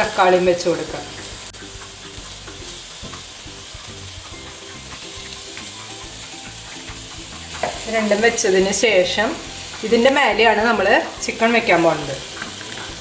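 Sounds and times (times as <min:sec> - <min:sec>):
onion and tomato sizzling: 0:00.0 - 0:13.0
quiet background music: 0:00.0 - 0:13.0.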